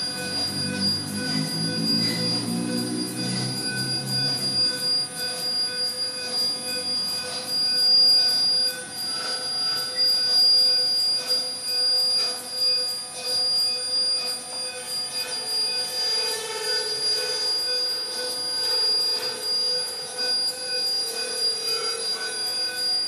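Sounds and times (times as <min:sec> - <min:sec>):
electronic drone of steady tones: 0:00.0 - 0:23.0.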